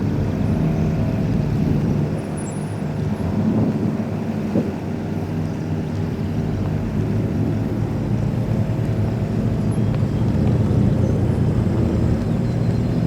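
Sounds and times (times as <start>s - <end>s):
car engine running: 0.1s - 13.0s.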